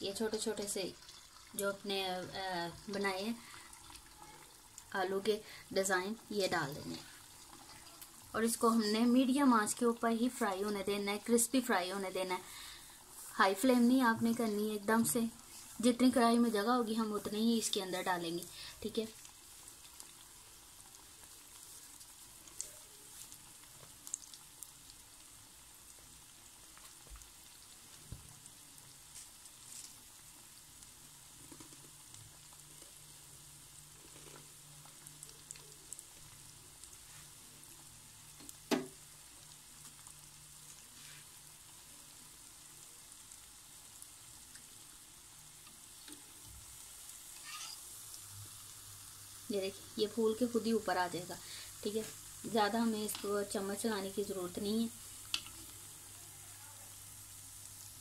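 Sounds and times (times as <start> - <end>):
food deep-frying sizzle: 0.0 - 58.0.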